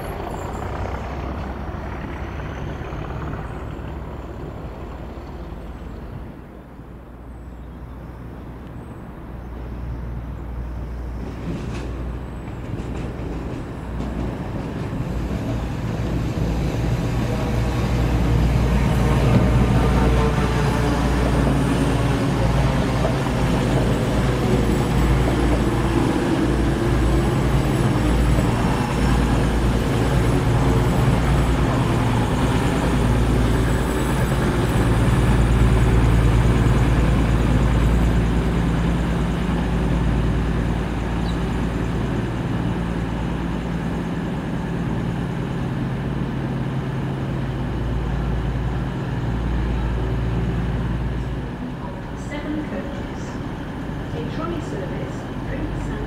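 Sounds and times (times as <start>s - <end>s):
diesel train engine drone: 0.0s - 56.0s.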